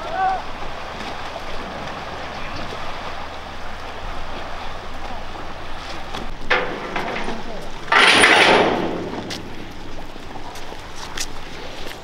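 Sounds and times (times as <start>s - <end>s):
boat engine humming: 0.0s - 12.0s
outdoor noise: 0.0s - 12.0s.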